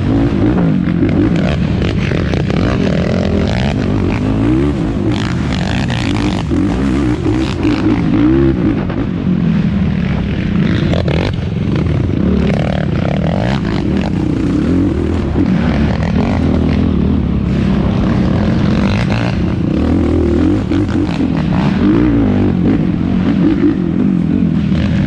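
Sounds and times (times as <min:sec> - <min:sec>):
quad engine revving: 0:00.0 - 0:09.2, 0:10.0 - 0:25.0.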